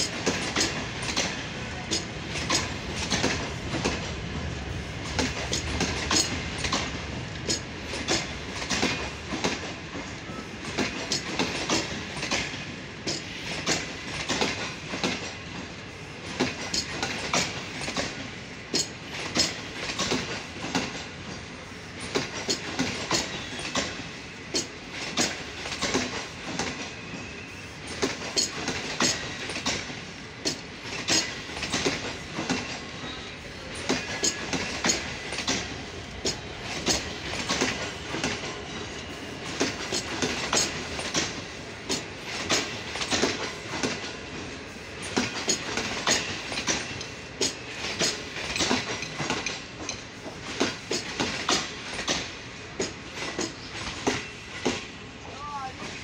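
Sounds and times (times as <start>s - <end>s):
train wheels clicking over rail joints: 0.0s - 55.0s.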